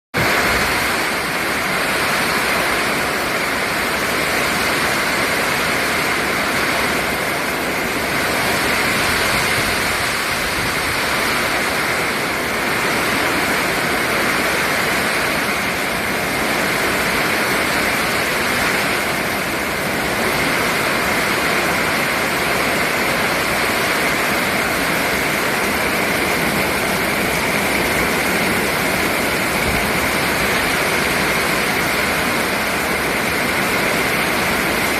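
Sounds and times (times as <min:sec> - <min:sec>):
heavy rain: 0:00.1 - 0:34.9
wind: 0:00.1 - 0:34.9.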